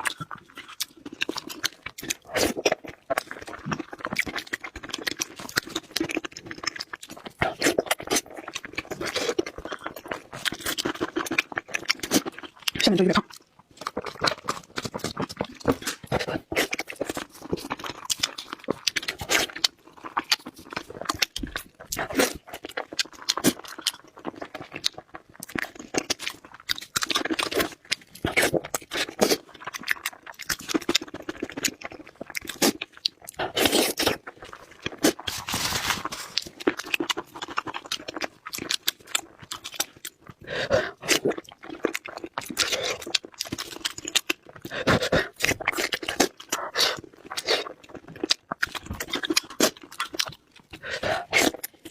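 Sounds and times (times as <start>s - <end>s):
crunching and chewing crispy food: 0.0s - 51.9s.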